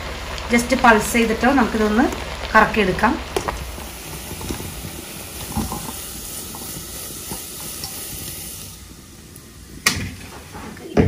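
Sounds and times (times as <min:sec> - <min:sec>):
clay pot sizzling hiss: 0:00.0 - 0:11.0.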